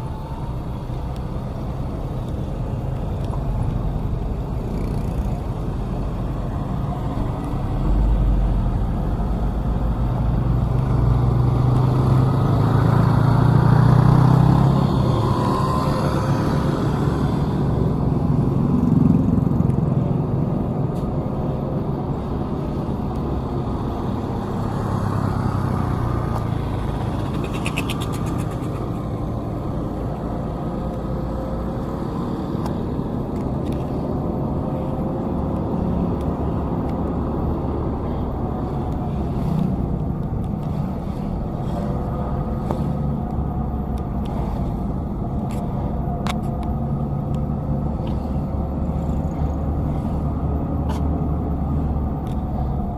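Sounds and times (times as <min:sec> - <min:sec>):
vehicle engine and road noise: 0:00.0 - 0:52.9.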